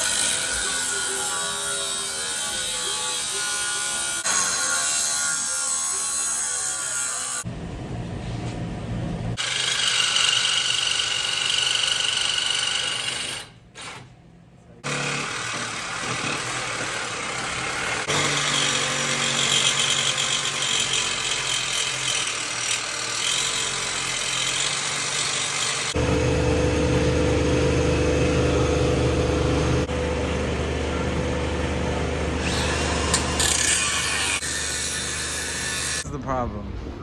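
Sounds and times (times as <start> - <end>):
power tool cutting metal pipe: 0.0 - 7.5, 9.4 - 13.5, 14.8 - 30.0, 32.4 - 36.0.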